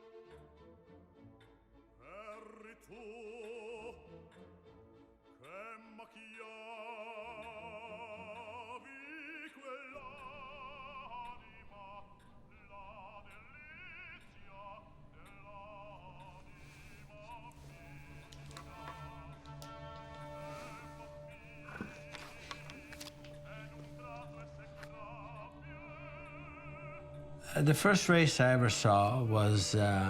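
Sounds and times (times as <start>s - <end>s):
background music: 0.0s - 30.0s
operatic singing with vibrato: 2.0s - 4.4s, 5.4s - 30.0s.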